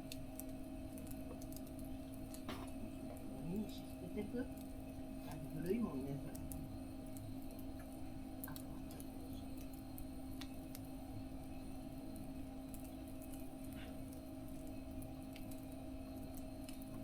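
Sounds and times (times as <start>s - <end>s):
steady low hum: 0.0s - 17.0s
wood fire crackling: 0.0s - 17.0s.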